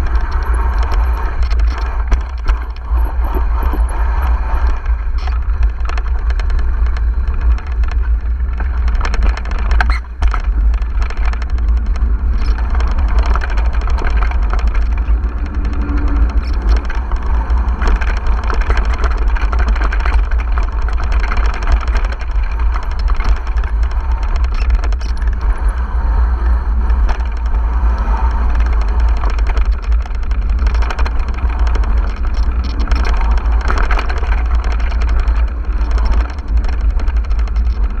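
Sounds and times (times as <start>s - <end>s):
bike rattling over bumps: 0.0s - 38.0s
wind buffeting microphone: 0.0s - 38.0s.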